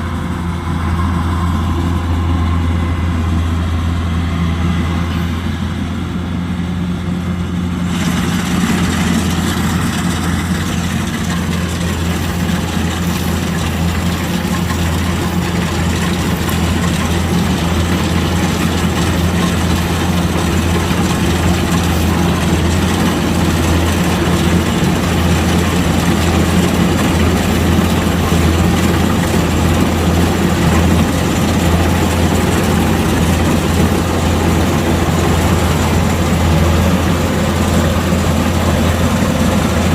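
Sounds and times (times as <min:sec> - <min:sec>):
diesel engine droning: 0:00.0 - 0:39.9
rush of machinery noise: 0:00.0 - 0:39.9.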